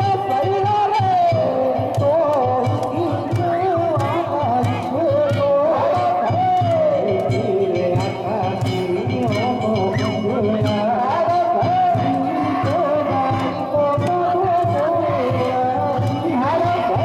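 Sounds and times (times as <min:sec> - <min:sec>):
rapid drumbeat: 0:00.0 - 0:17.0.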